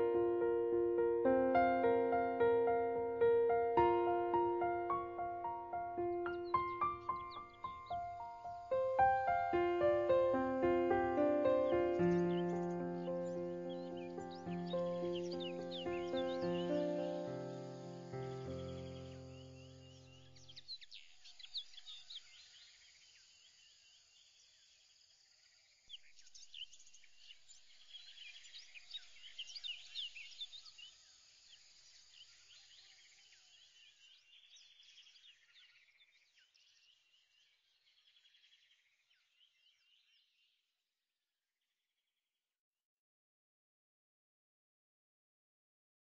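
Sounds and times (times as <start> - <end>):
small birds chirping: 0.0 - 40.6.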